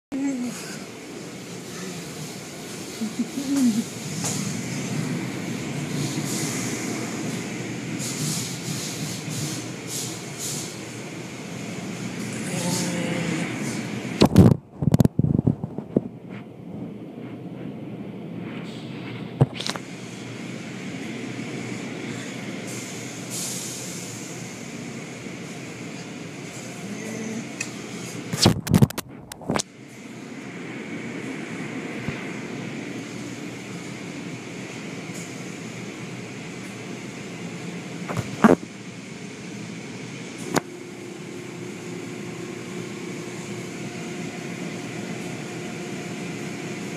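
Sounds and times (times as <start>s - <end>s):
car wash machinery rumbling: 0.1s - 46.9s.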